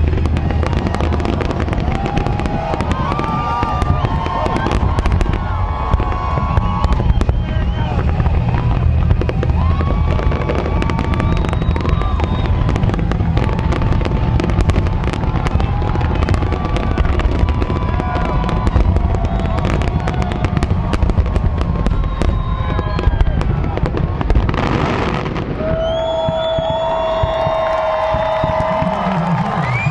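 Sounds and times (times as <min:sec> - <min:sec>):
fireworks crackling and popping: 0:00.0 - 0:29.9
low booming of fireworks: 0:00.0 - 0:29.9
whistling fireworks: 0:00.0 - 0:29.9.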